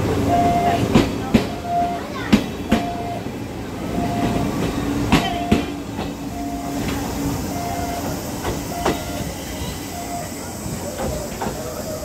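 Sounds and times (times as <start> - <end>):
train coaches rolling past: 0.0 - 12.0
wheels clacking over rail joints: 0.0 - 12.0.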